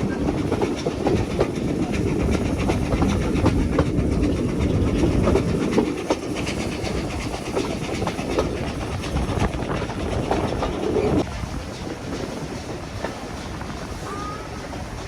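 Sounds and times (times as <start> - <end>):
rail joint clicks and clacks: 0.0 - 15.0
train wheels rumbling on rails: 0.0 - 15.0.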